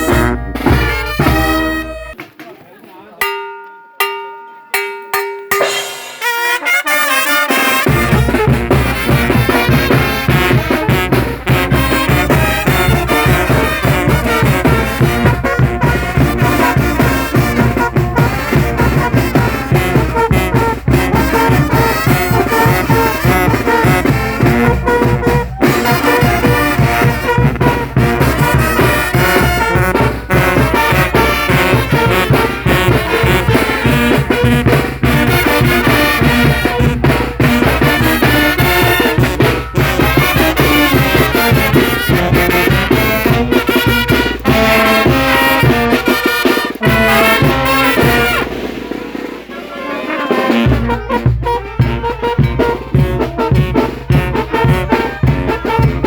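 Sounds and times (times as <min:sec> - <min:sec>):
brass band playing: 0:00.0 - 0:02.2, 0:05.5 - 0:56.0.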